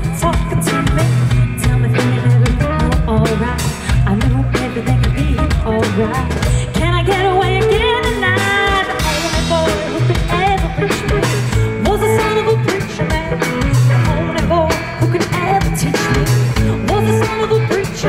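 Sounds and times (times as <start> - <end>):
live band playing soul-rock: 0.0 - 18.0
woman singing with vibrato: 0.0 - 18.0.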